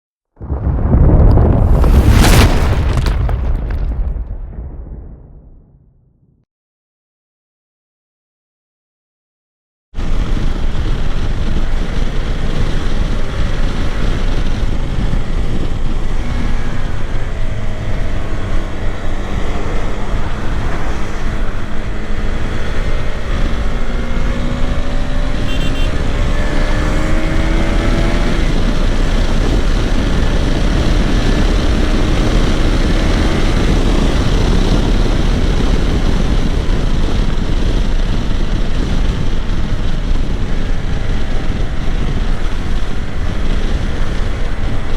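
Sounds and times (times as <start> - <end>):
wind noise on microphone: 0.4 - 5.8, 10.0 - 44.9.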